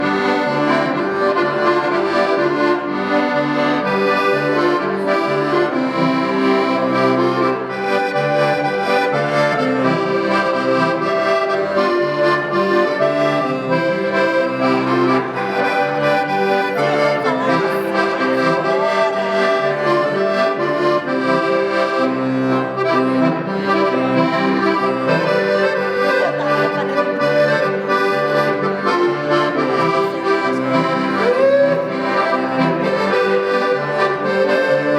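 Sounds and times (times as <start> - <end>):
accordion playing a folk tune: 0.0 - 34.9.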